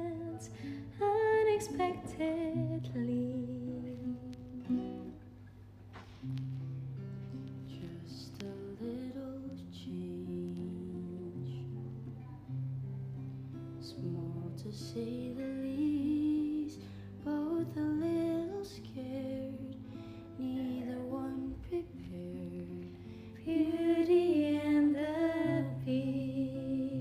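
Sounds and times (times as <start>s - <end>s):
woman singing softly: 0.0s - 5.2s, 7.5s - 12.6s, 13.6s - 27.0s
plucked guitar chords: 0.0s - 27.0s.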